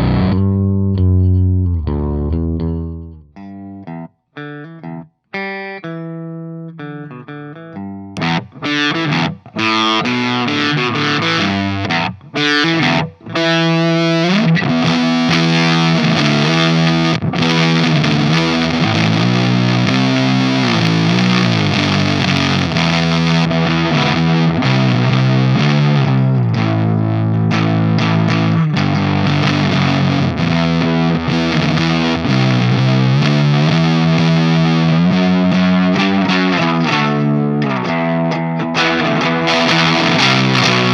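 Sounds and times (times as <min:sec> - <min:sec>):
distorted electric guitar riffs: 0:00.0 - 0:40.9.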